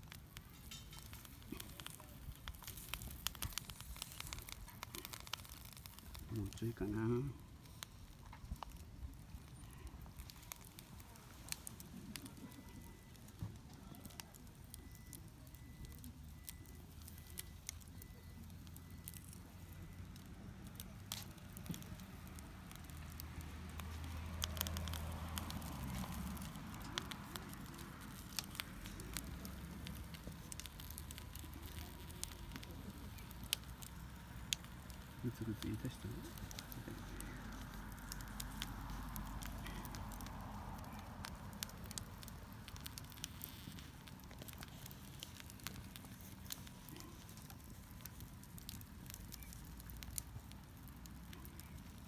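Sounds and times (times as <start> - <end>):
soup bubbling in a pot: 0.0 - 6.6, 7.3 - 52.0
campfire crackling: 0.0 - 52.0.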